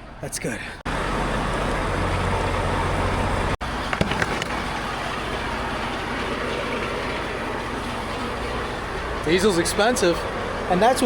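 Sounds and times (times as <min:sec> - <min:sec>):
diesel truck engine idling: 0:00.9 - 0:11.0.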